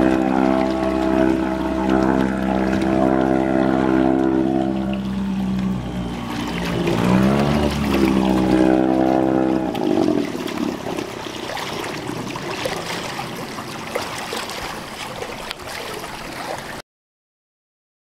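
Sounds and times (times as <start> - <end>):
outboard motor running: 0.0 - 16.7
water lapping: 0.0 - 16.8
wind: 0.0 - 16.8.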